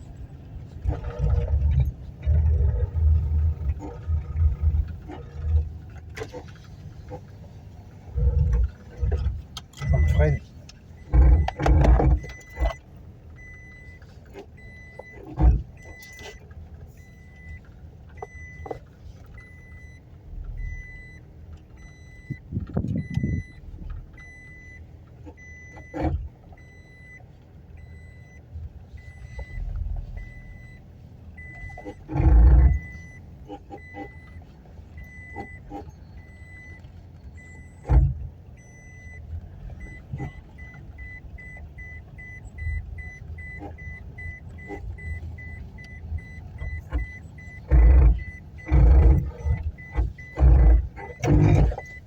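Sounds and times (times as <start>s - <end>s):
low road rumble: 0.0s - 52.0s
dashboard warning chime beeping: 0.8s - 52.0s.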